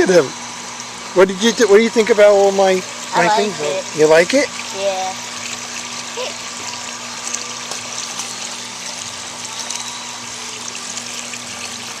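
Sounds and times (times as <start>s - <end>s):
water falling and splashing: 0.0s - 12.0s.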